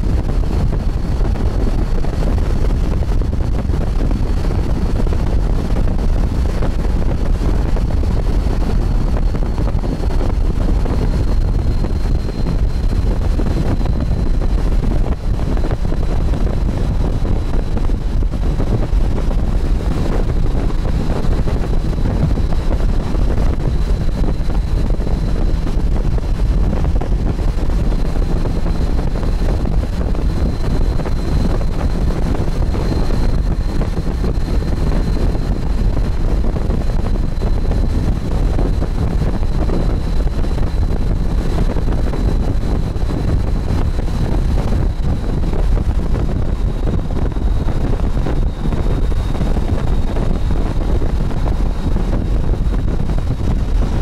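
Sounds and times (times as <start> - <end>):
motorcycle running: 0.0 - 54.0
wind buffeting microphone: 0.0 - 54.0.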